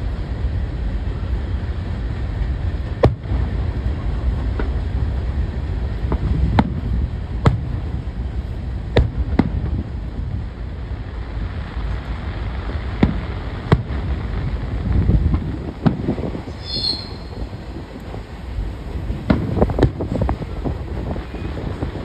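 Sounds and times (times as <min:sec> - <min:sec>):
fireworks bursting with bangs: 0:00.0 - 0:22.0.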